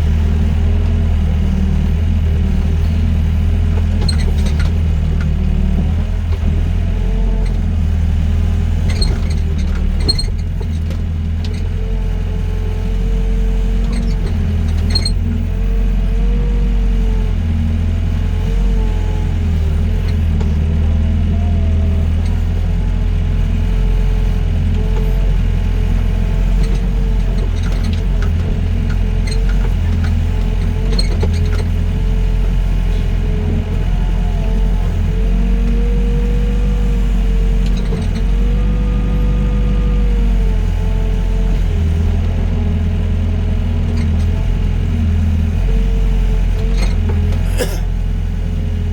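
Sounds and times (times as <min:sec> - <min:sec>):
diesel engine under load: 0:00.0 - 0:48.9.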